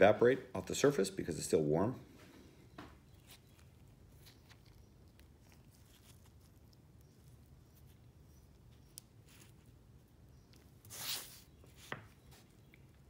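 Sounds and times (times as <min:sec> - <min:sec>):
faint clicks of clay handling: 0:02.2 - 0:13.0.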